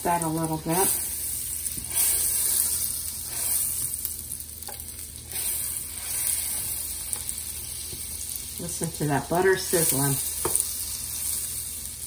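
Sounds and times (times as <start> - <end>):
butter sizzling in a skillet: 0.0 - 12.0
wooden spoon in skillet: 0.0 - 12.0.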